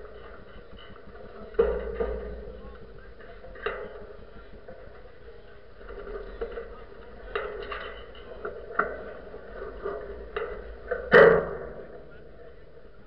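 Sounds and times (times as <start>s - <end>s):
mast and rigging clicking: 0.0s - 13.0s.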